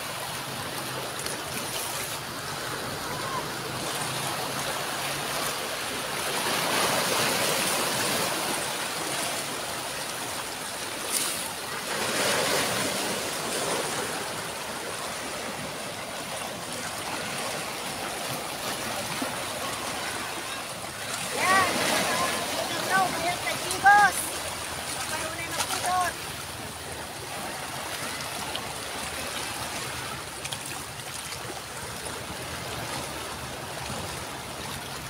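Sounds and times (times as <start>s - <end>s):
waves washing over rocks: 0.0s - 35.0s.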